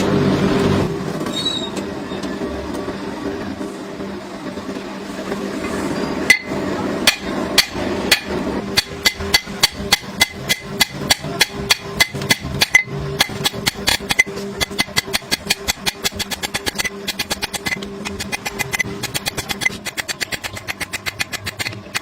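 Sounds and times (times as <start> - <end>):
steady hum: 2.3 - 22.0.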